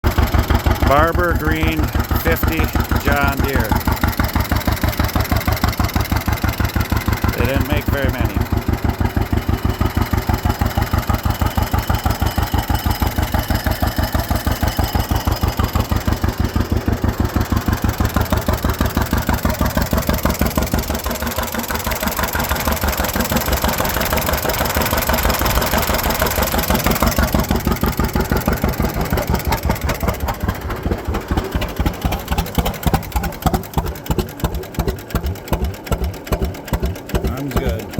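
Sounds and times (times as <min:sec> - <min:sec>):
tractor engine pulsing: 0:00.0 - 0:37.9.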